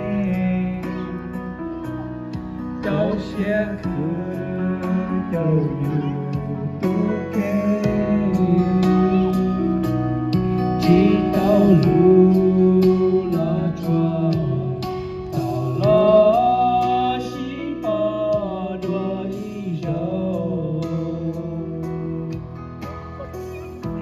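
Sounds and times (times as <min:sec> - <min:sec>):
instrumental backing track: 0:00.0 - 0:24.0
man singing karaoke: 0:00.0 - 0:24.0.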